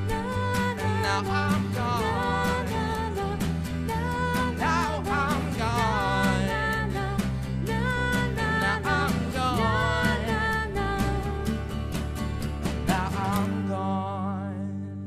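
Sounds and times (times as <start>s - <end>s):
background music with steady beat: 0.0s - 13.6s.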